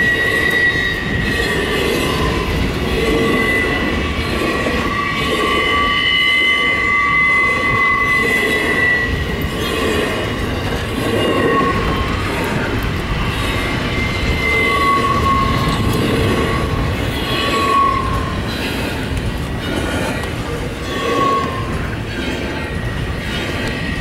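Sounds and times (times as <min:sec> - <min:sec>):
high wheel squeal: 0:00.0 - 0:24.0
train wheels rumbling on rails: 0:00.0 - 0:24.0
wind buffeting microphone: 0:00.0 - 0:24.0.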